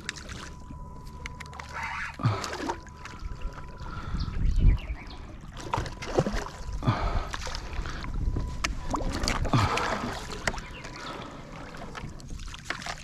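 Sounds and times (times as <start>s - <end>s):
water sloshing around kayak: 0.0s - 13.0s.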